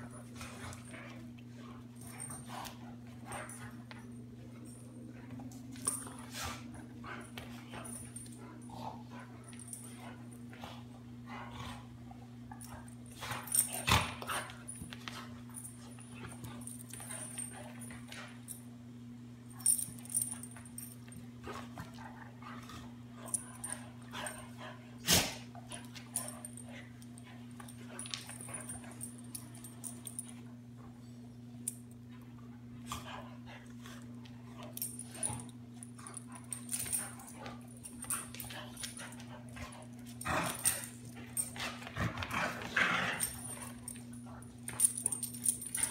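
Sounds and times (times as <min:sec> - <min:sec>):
dogs scuffling and playing: 0:00.0 - 0:18.8, 0:19.5 - 0:45.9
steady low hum: 0:00.0 - 0:45.9.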